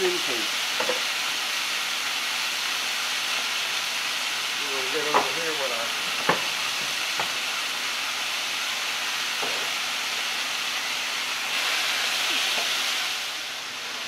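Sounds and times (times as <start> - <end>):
meat sizzling in a skillet: 0.0 - 14.0.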